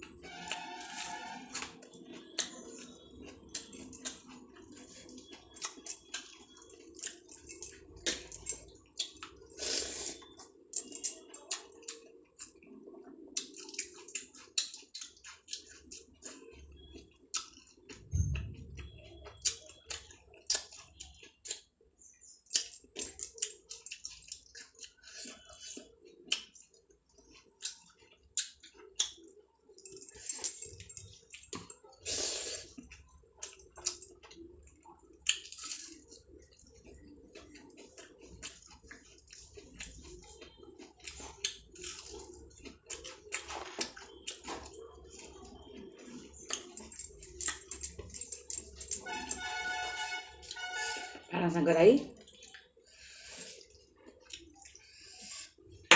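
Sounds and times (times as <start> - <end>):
wet squishing and smacking eating: 0.0 - 49.8, 52.0 - 55.9
person chewing food: 0.0 - 51.2, 52.2 - 55.9.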